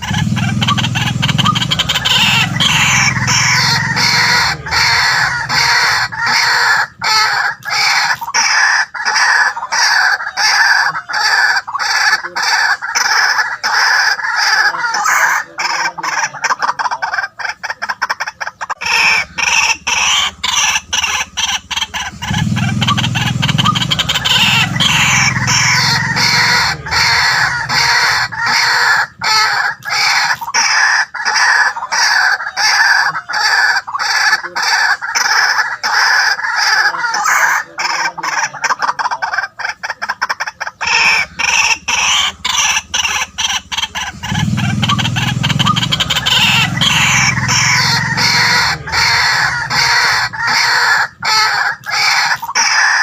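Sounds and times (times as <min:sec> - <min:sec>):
waterhen calling harsh notes: 0:00.0 - 0:53.0.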